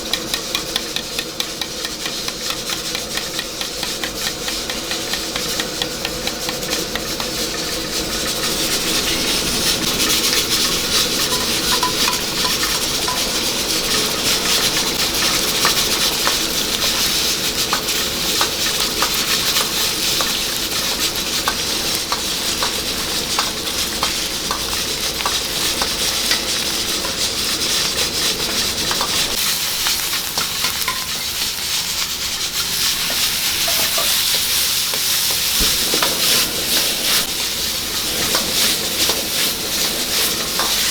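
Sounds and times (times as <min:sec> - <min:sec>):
metal clicking on a wok: 0:00.0 - 0:37.5
food sizzling in a wok: 0:00.0 - 0:40.9
spatula scraping a wok: 0:00.0 - 0:40.9.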